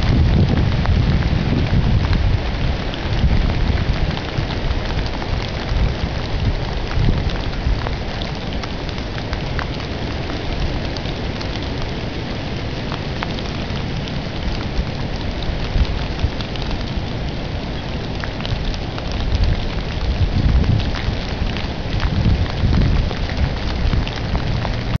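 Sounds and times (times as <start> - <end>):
low wind rumble: 0.0 - 25.0
rain drop ticks: 0.0 - 25.0
rain hissing: 0.0 - 25.0.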